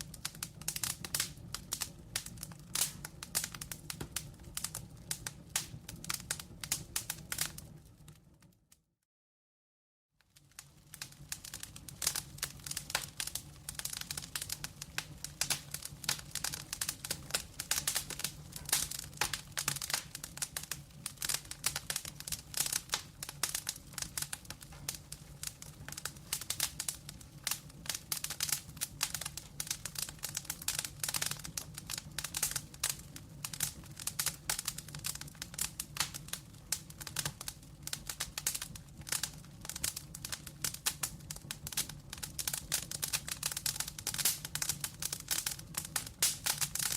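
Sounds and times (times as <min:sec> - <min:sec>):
log fire crackling and popping: 0:00.0 - 0:08.6, 0:10.2 - 0:46.9.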